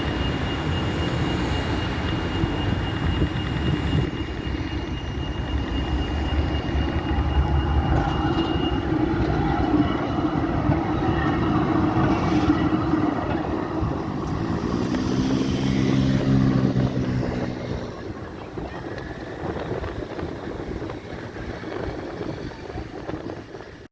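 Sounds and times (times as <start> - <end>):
tram rolling on track: 0.0 - 23.9.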